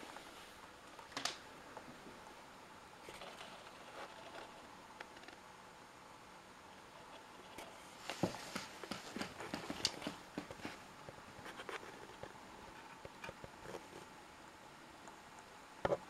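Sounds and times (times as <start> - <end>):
fluorescent light hum: 0.0 - 16.0.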